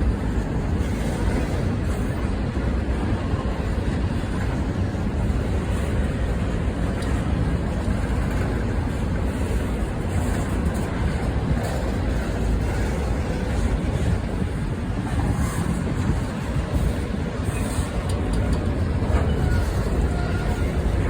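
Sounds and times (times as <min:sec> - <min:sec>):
goods train rumbling past: 0:00.0 - 0:21.0.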